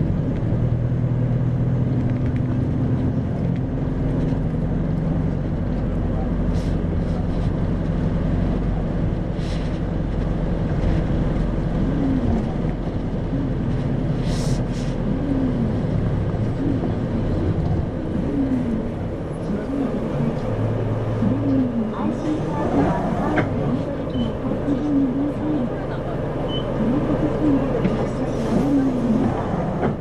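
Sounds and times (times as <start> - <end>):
bus diesel engine hum: 0.0 - 30.0
road noise: 0.0 - 30.0.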